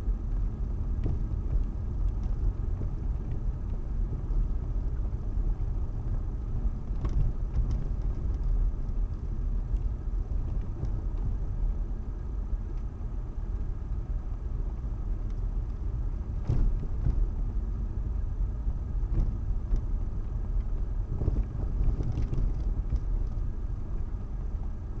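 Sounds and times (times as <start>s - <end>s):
car rumbling in motion: 0.0s - 25.0s.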